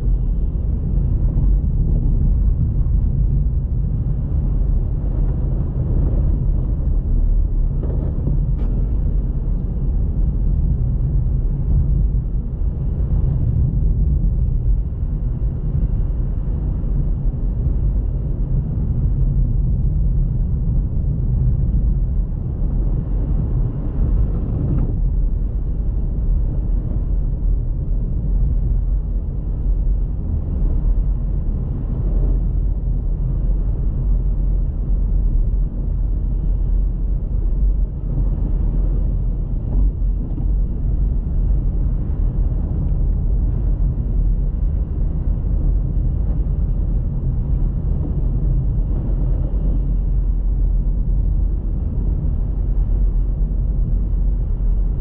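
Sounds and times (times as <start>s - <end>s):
car engine and tyre rumble on snow: 0.0s - 55.0s.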